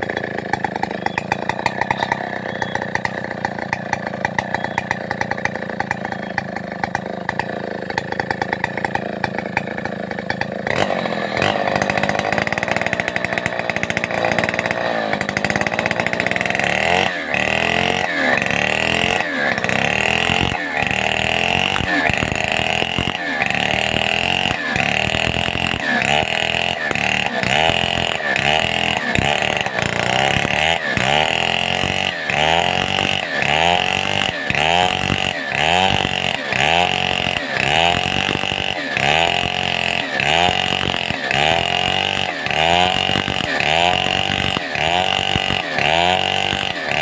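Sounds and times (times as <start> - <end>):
chainsaw running at high revs: 0.0 - 47.0.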